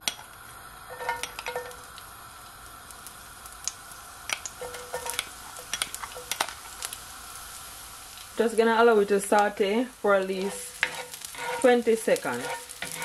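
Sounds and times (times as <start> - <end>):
onion sizzling in frying pan: 0.0 - 13.0.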